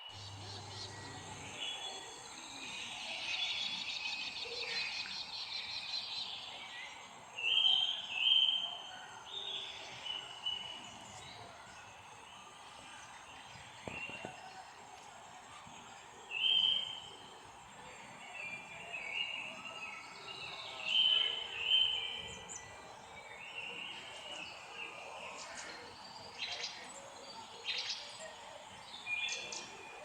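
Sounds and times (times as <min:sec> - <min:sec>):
birds calling and singing: 0:00.0 - 0:15.1, 0:15.7 - 0:30.0.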